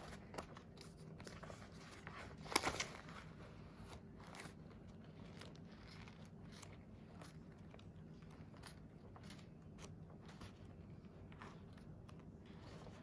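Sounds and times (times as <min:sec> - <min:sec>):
paper pages turning: 0:00.0 - 0:13.0.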